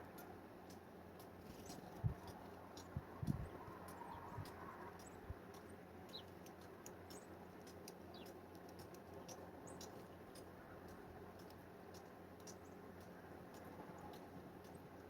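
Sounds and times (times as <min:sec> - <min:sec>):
faint high ticks: 0:00.0 - 0:15.0
small birds chirping: 0:00.0 - 0:15.0.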